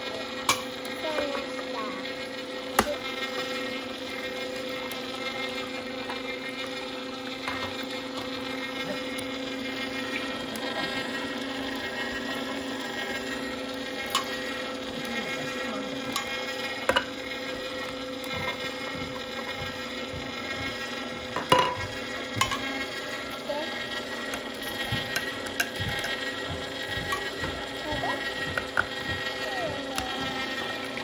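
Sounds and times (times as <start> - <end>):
juicer motor running: 0.0 - 31.0.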